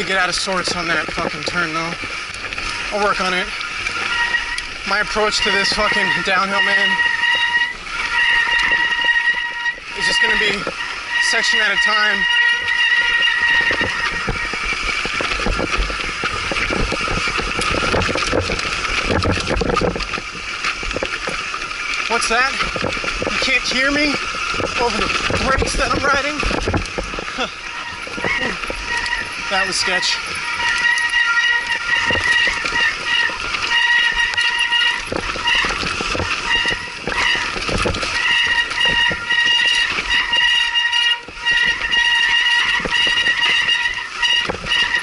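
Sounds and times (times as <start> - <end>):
bike brake squeal: 0.0 - 45.0.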